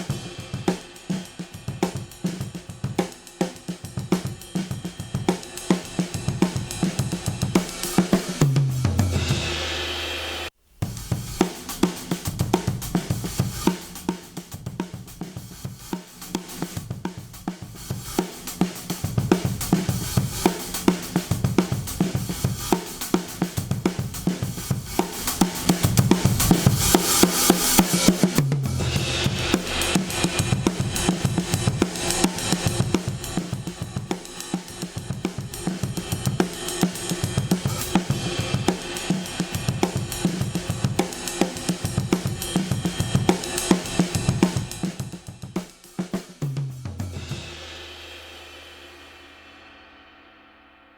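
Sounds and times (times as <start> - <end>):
drum kit playing a beat: 0.0 - 49.9.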